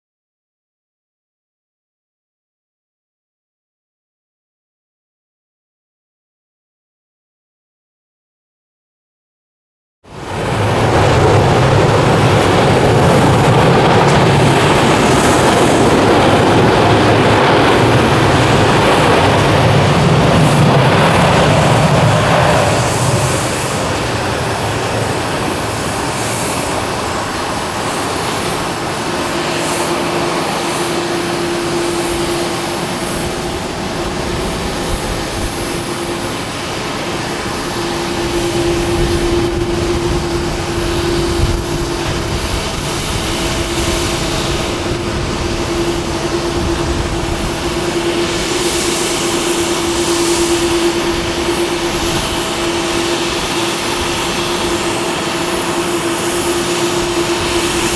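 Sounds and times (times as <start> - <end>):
jet engines at taxi power: 10.0 - 57.9.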